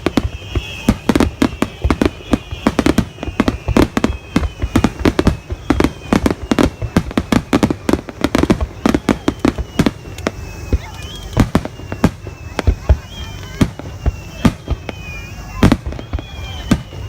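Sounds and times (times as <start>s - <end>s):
fireworks bangs and pops: 0.0s - 17.0s
fireworks whistling down: 0.0s - 17.0s.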